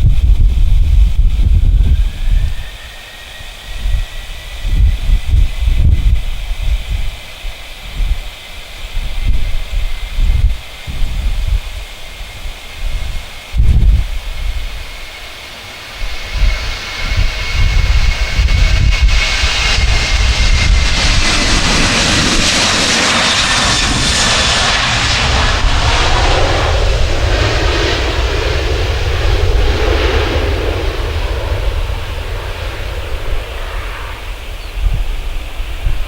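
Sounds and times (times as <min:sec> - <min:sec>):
jet engine roar and whine: 0:00.0 - 0:36.0
wind buffeting microphone: 0:00.0 - 0:36.0.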